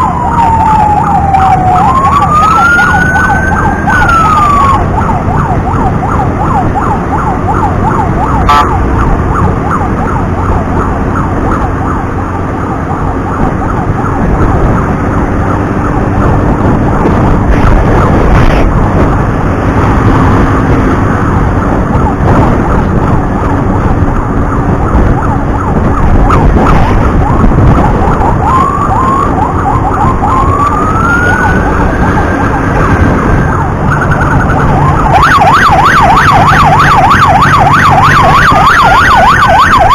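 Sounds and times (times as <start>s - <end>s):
emergency siren: 0.0s - 39.9s
traffic rumble: 0.0s - 39.9s
wind: 0.0s - 39.9s.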